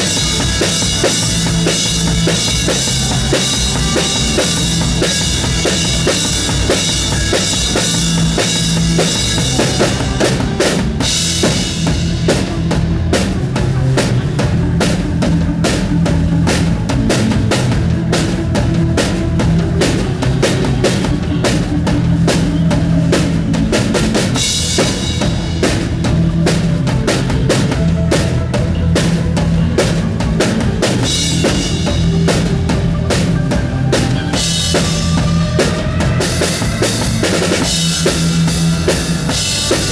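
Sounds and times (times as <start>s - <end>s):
bass drum and snare hits: 0.0s - 39.9s
low bass notes: 0.0s - 39.9s.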